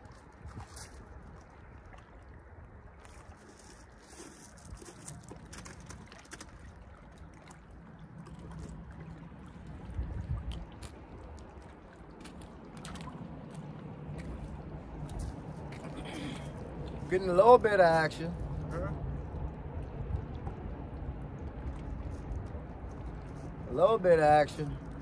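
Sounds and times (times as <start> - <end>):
low steady rumble: 0.0 - 25.0
waves lapping against rocks: 0.0 - 25.0.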